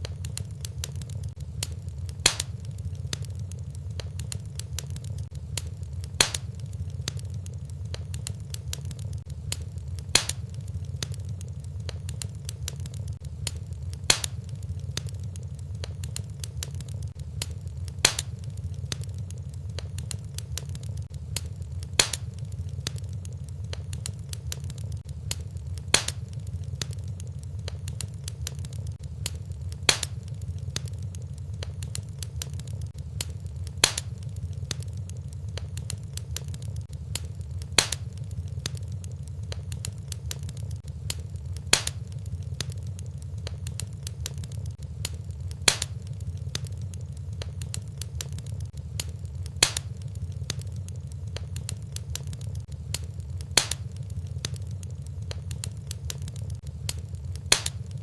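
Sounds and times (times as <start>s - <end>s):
fire rumble: 0.0s - 58.0s
loud fire pops: 0.0s - 58.0s
wood fire crackling: 0.0s - 58.0s.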